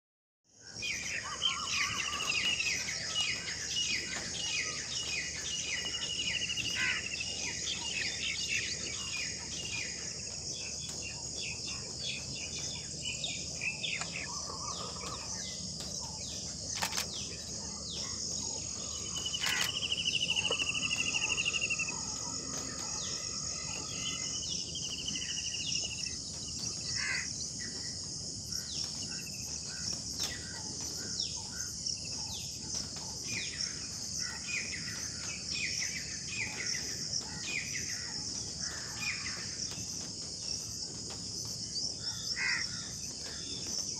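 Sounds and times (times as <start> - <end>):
low bird calls: 0.6 - 41.1, 41.9 - 43.9
birds chirping: 0.6 - 43.9.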